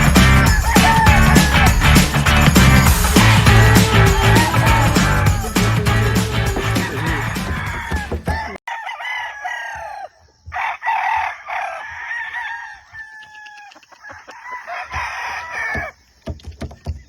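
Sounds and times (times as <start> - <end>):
roosters crowing: 0.0 - 16.2.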